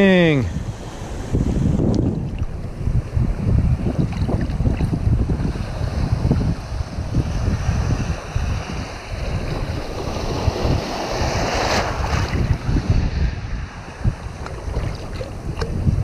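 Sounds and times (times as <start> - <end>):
wind buffeting microphone: 0.0 - 16.0
small waves washing: 0.6 - 16.0.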